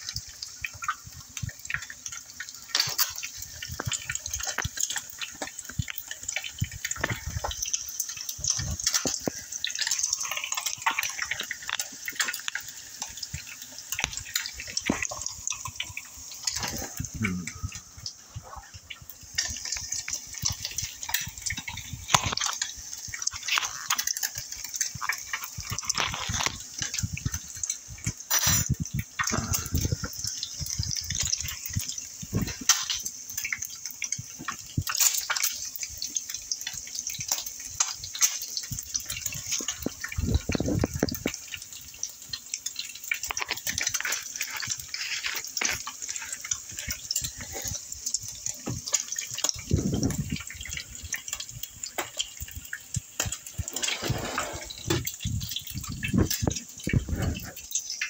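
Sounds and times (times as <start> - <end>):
eggs sizzling in hot oil: 0.0 - 58.0.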